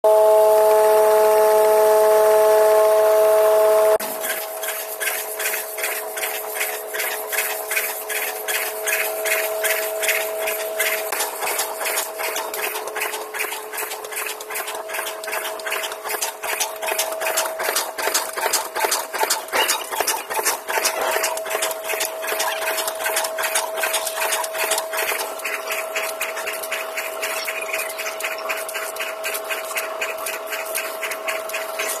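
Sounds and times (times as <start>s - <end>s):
machine hum: 0.0s - 32.0s
packing machine rattling and hissing: 4.0s - 32.0s.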